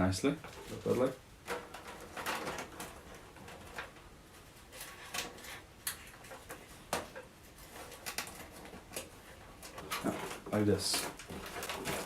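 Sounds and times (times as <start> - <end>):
cables rustling: 0.3 - 12.0.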